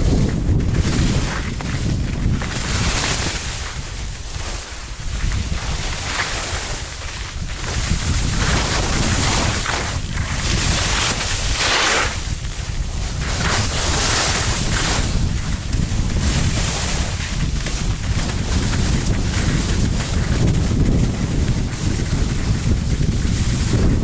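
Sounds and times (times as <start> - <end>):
skis hissing over snow: 0.0 - 24.0
wind rumbling on microphone: 0.0 - 24.0.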